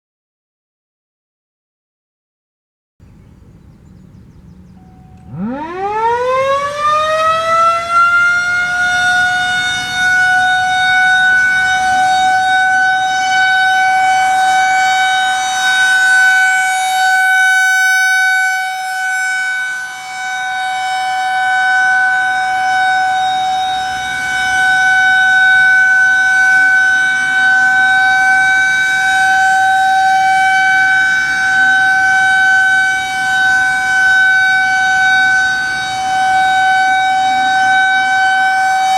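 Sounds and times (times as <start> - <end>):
rotating warning siren wailing: 3.1 - 38.9.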